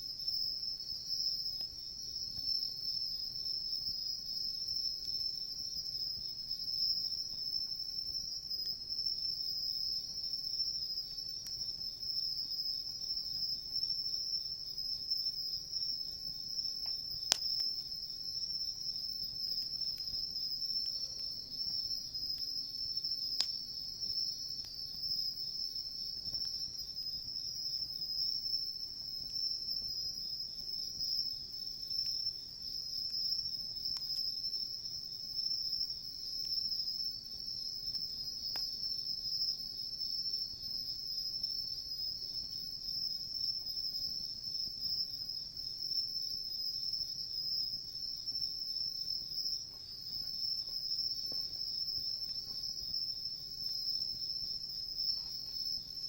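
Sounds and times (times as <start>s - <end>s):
crickets trilling: 0.0s - 56.0s
faint campfire crackles: 0.0s - 56.0s.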